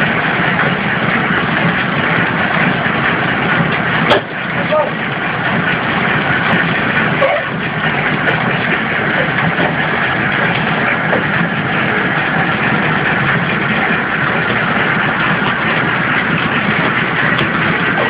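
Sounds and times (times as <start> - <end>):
packing machine hum and rattle: 0.0 - 18.0.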